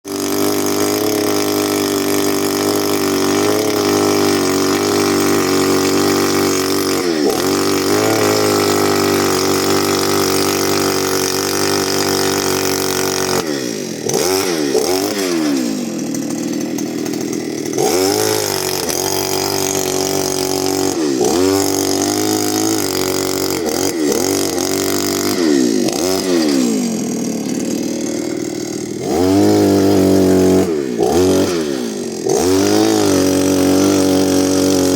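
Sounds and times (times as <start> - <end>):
small petrol engine running: 0.0 - 34.9.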